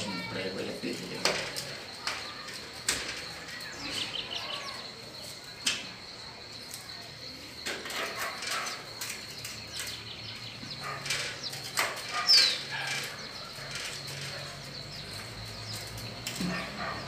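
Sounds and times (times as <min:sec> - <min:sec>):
faint high insect-like tone: 0:00.0 - 0:17.0.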